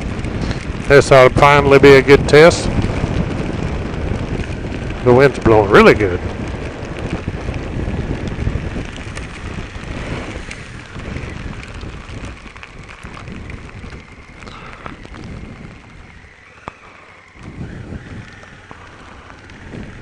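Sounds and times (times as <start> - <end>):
raindrops ticking: 0.0 - 20.0
wind rushing over microphone: 0.0 - 20.0.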